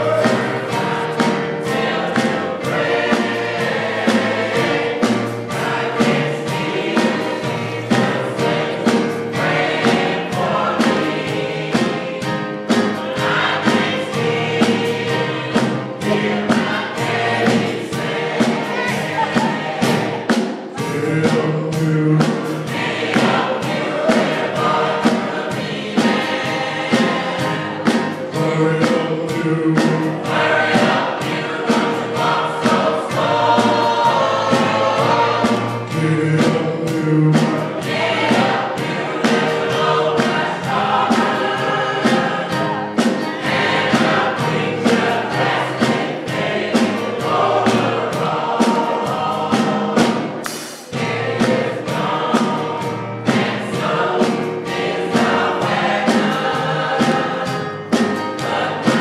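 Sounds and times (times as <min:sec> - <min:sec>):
gospel choir singing: 0:00.0 - 0:59.0
sharp rhythmic strikes: 0:00.0 - 0:59.0.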